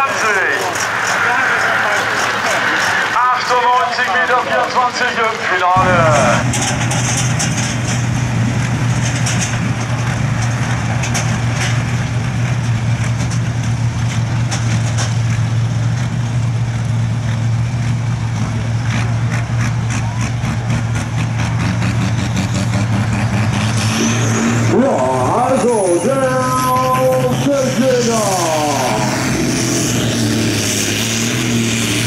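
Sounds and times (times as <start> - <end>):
diesel tractor engine idling and revving: 0.0 - 32.0.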